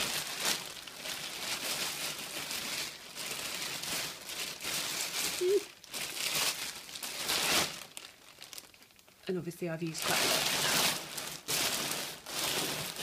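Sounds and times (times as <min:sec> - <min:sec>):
plastic bags crinkling and rustling: 0:00.0 - 0:13.0.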